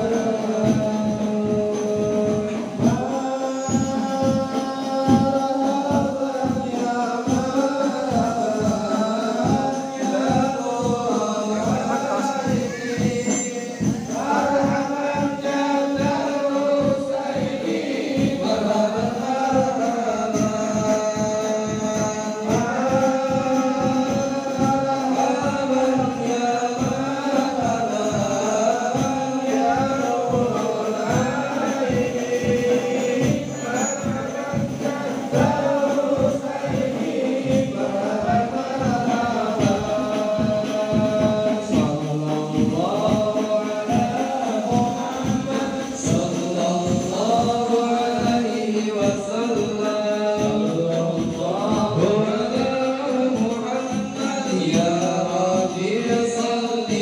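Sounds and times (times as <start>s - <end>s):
frame drums beating: 0.0s - 57.0s
men singing in unison: 0.0s - 57.0s.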